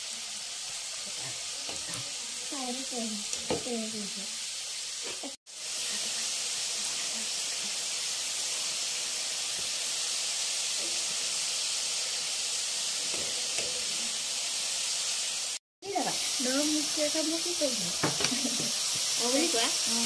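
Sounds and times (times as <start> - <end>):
dough deep-frying in oil: 0.0 - 20.0.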